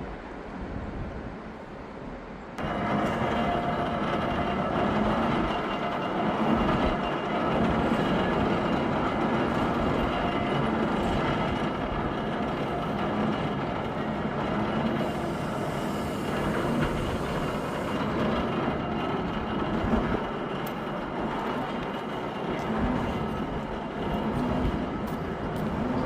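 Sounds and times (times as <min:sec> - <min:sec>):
train rumbling across bridge: 0:00.0 - 0:26.0.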